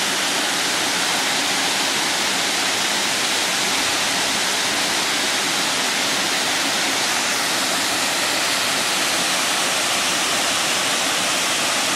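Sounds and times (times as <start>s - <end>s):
waterfall pouring over rocks: 0.0s - 11.9s.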